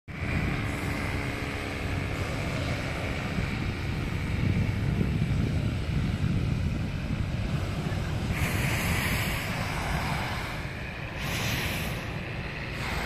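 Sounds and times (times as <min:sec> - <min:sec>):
inflator fans droning: 0:00.1 - 0:13.0
wind rumbling on microphone: 0:00.1 - 0:13.0.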